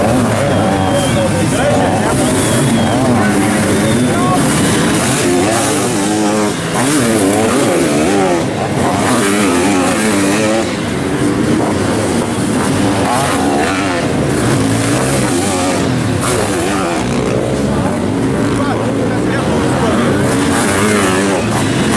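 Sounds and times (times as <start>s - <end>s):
motorcycle engines revving: 0.0s - 21.9s.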